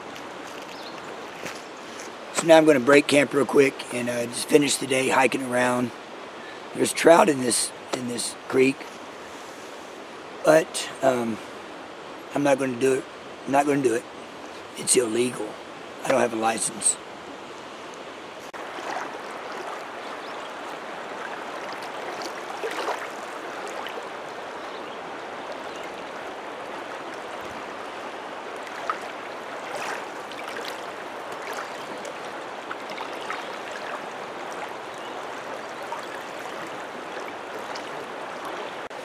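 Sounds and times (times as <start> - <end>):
creek rushing over rocks: 0.0 - 39.0.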